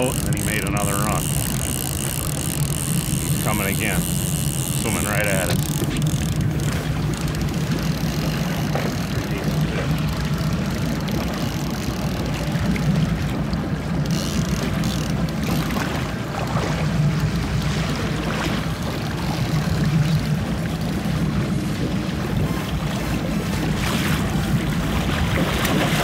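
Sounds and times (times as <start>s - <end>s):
boat motor humming: 0.0s - 26.0s
wind and water rushing: 0.0s - 26.0s.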